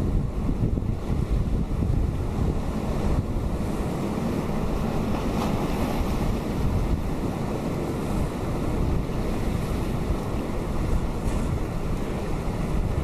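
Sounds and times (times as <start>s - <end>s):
wind buffeting microphone: 0.0s - 13.0s
surf breaking on rocks: 1.0s - 13.0s.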